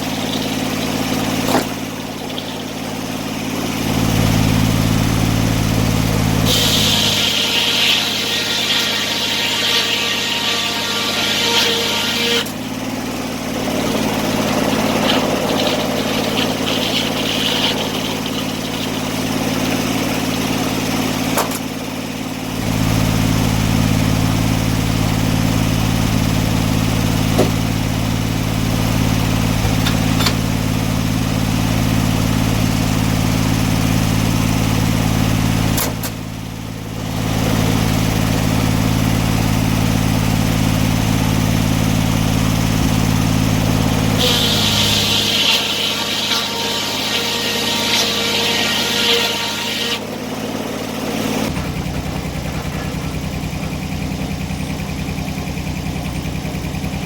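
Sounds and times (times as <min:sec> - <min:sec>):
engine running with low hum: 0:00.0 - 0:57.0.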